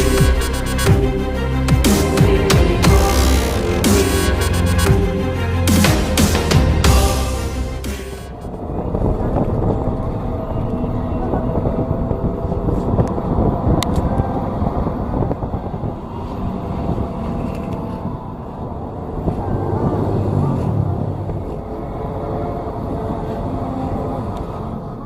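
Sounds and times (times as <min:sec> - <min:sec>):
heavy diesel machinery running: 0:00.0 - 0:24.6.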